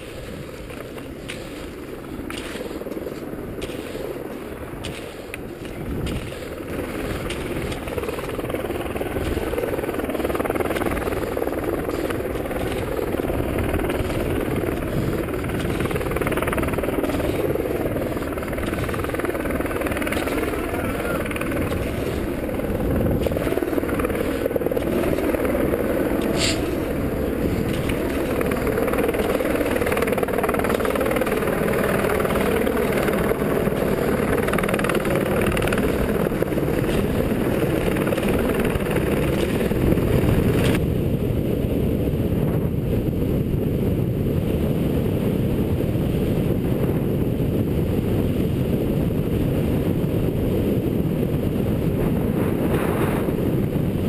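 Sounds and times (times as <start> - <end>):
helicopter flying overhead: 0.0 - 54.0
wind on microphone: 0.0 - 54.0.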